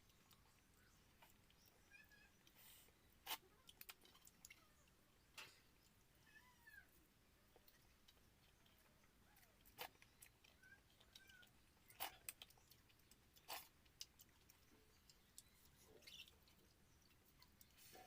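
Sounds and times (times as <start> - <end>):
faint clicks and ticks: 0.0 - 6.1, 7.4 - 18.0
faint chirp: 0.0 - 13.5, 14.2 - 18.0.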